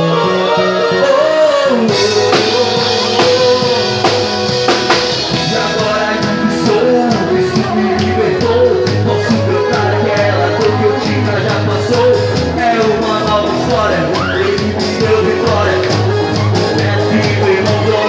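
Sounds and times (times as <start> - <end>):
melodic lead line: 0.0 - 18.0
rock band playing: 0.0 - 18.0.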